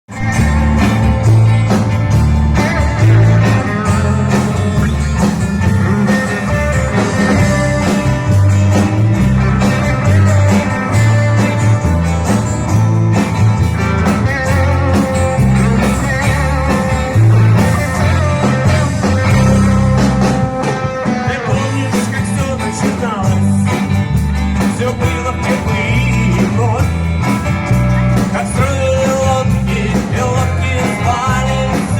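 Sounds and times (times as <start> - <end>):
bass line: 0.0 - 31.9
guitar: 0.0 - 31.9
live band music: 0.1 - 31.9.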